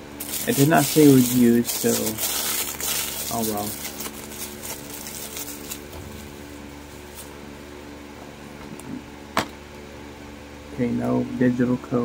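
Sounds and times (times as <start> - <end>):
low hum: 0.0 - 9.7.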